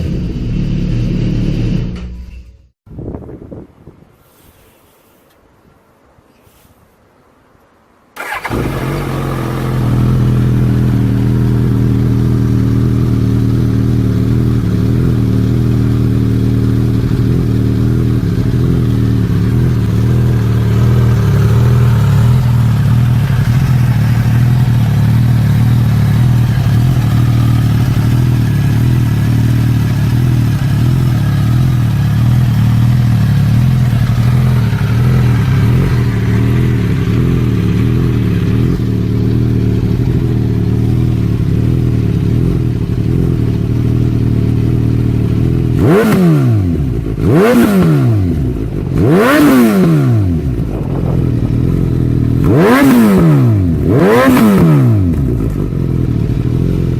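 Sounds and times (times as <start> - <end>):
motorcycle engine starting and running: 0.0 - 2.7, 8.2 - 56.9.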